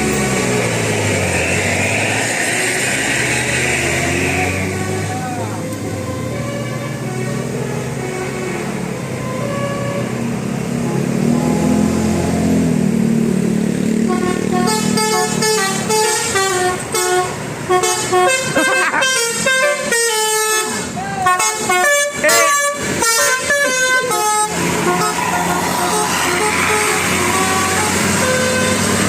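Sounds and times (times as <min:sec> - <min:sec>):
multi-tone bus horn tune: 0:00.0 - 0:02.1, 0:03.0 - 0:12.4, 0:13.8 - 0:29.0.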